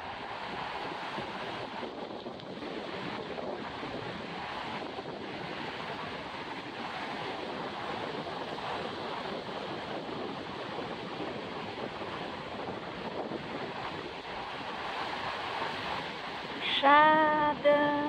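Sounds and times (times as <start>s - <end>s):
ocean surf breaking on beach: 0.0s - 18.0s
wind blowing across microphone: 0.0s - 18.0s.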